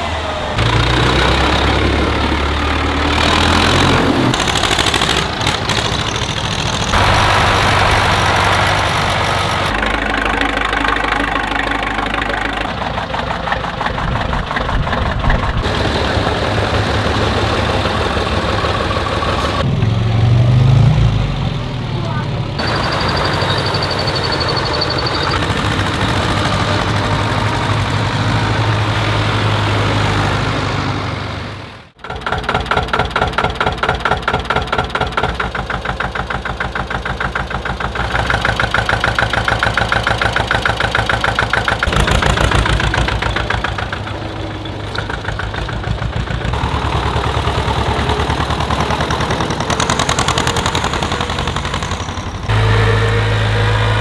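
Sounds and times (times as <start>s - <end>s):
engine pulsing chug: 0.0s - 19.9s, 21.2s - 54.0s
tractor diesel engines idling: 0.0s - 54.0s.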